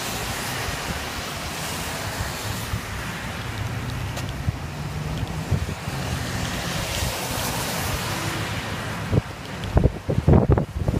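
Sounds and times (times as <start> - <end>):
car tyres hissing on wet road: 0.0 - 10.9
wind buffeting microphone: 0.3 - 10.9.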